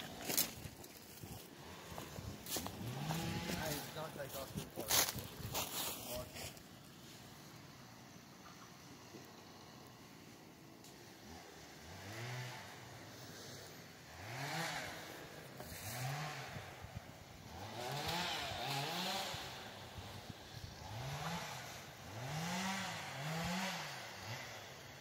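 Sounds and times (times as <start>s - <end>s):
chainsaw revving in short bursts: 0.0s - 6.6s, 11.0s - 25.0s.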